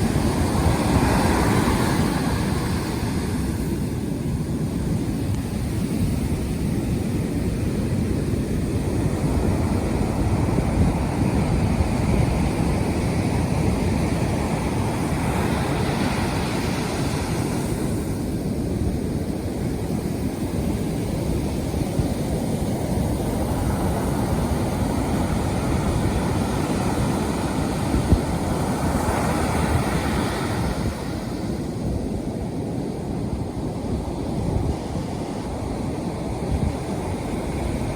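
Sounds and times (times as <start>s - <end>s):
heavy surf breaking on shore: 0.0s - 37.9s.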